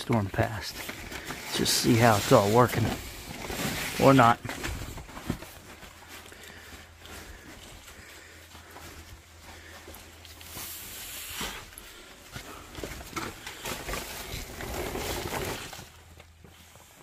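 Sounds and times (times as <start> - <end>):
person crawling over dirt floor: 0.0 - 17.0.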